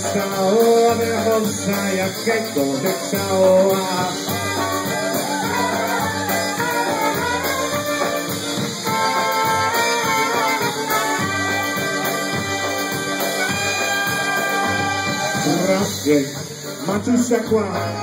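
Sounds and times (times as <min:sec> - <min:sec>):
polka band playing: 0:00.0 - 0:18.0
trumpets: 0:00.0 - 0:18.0.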